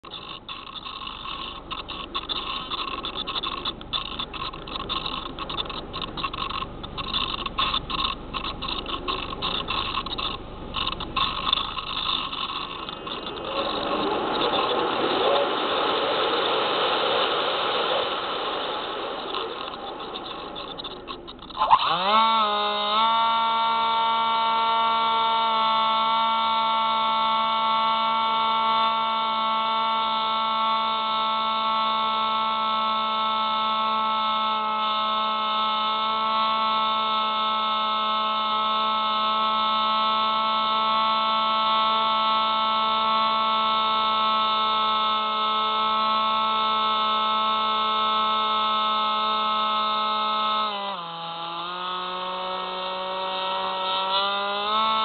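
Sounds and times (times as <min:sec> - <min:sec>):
model plane motor whine: 0:00.0 - 0:55.0.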